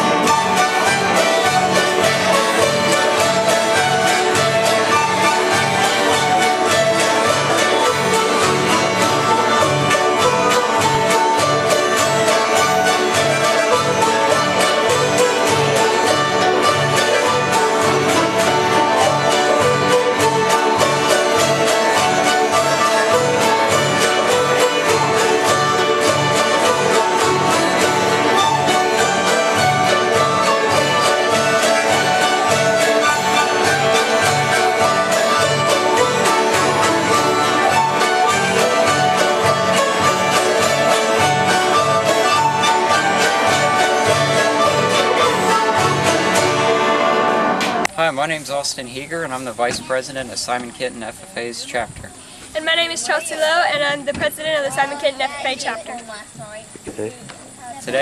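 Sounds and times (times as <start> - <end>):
bluegrass music: 0.0 - 56.6.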